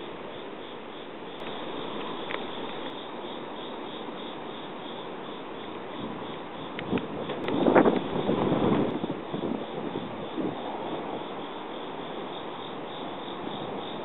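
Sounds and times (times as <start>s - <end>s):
crickets chirping: 0.0s - 14.0s
outdoor hiss: 0.0s - 14.0s.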